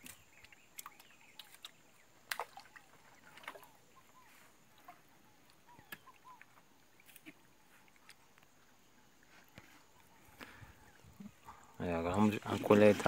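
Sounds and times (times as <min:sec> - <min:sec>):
water dripping and sloshing: 0:00.0 - 0:13.0.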